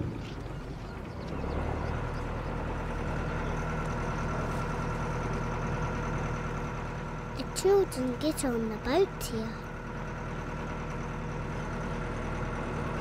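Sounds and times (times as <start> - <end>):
motorboat engine idling: 0.0 - 13.0.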